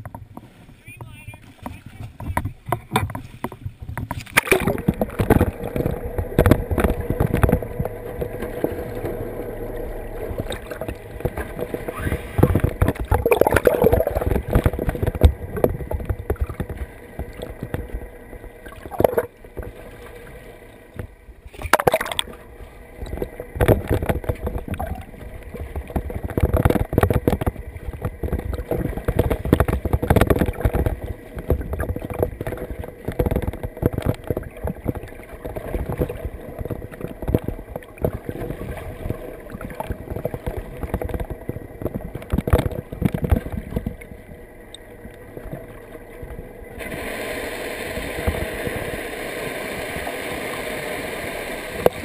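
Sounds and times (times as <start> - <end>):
faint steady hum: 0.0 - 52.0
muffled underwater water sloshing: 0.0 - 52.0.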